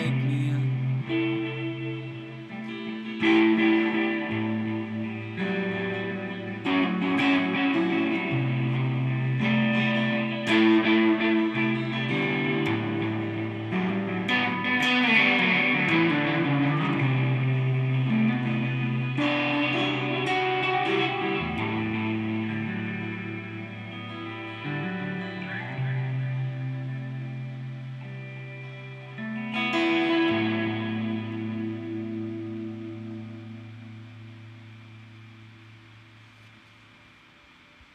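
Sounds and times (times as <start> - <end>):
guitar chords strummed: 0.0 - 37.9.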